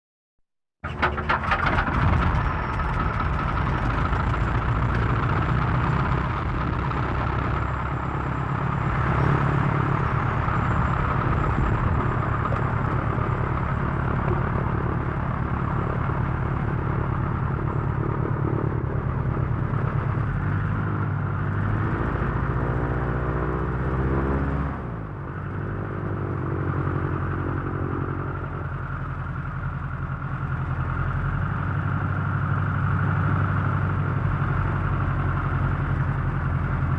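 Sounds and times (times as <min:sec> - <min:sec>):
propeller airplane engine running: 0:00.8 - 0:36.9.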